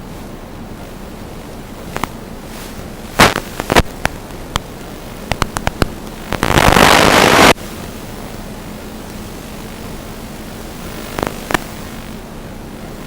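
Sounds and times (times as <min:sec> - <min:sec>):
crackles and pops: 0:00.0 - 0:13.0
loud rush of static: 0:00.0 - 0:13.0
static hiss: 0:00.0 - 0:13.0.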